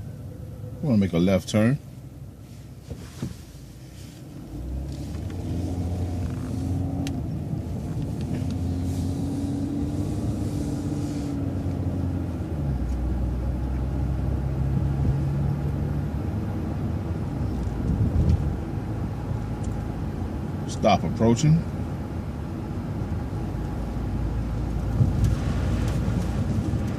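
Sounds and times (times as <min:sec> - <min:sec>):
bus engine pulling away: 0:04.0 - 0:20.8, 0:21.6 - 0:26.9.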